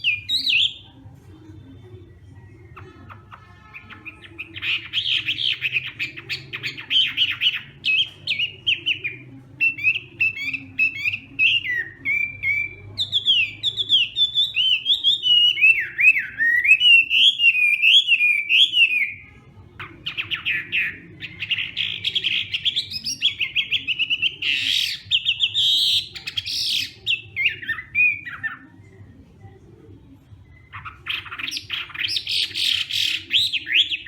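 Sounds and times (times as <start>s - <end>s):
bird singing varied song: 0.0s - 29.1s, 30.2s - 34.0s.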